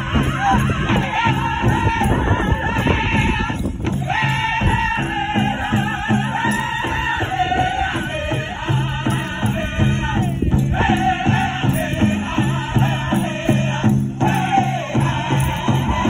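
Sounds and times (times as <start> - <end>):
steady drumbeat: 0.0 - 16.0
voices singing high in unison: 0.0 - 16.0.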